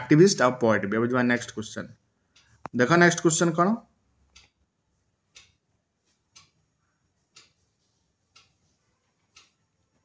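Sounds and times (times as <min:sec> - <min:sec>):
faint clock ticking: 0:00.0 - 0:10.0.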